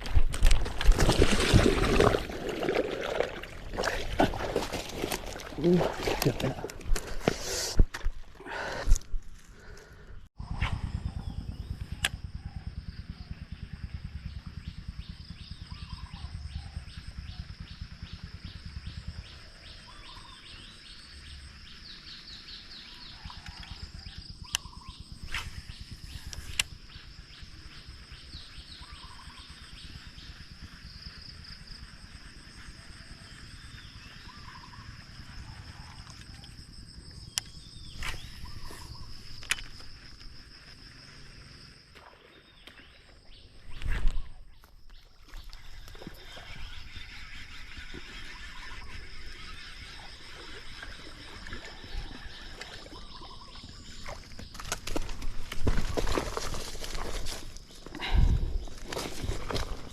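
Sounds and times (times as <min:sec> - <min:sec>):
insects buzzing in chorus: 0:09.5 - 0:59.9.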